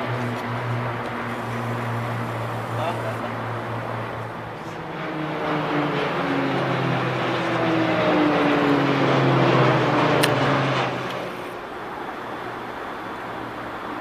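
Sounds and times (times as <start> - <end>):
helicopters flying past: 0.0 - 14.0.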